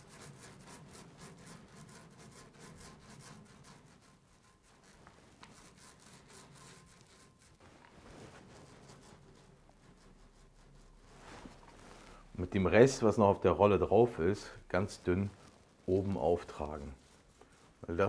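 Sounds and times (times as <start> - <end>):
paint roller rubbing on metal: 0.0 - 18.0.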